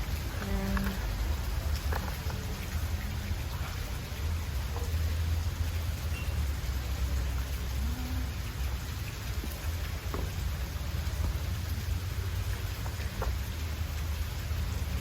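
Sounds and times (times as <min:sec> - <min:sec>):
falling water splashing: 0:00.0 - 0:15.0.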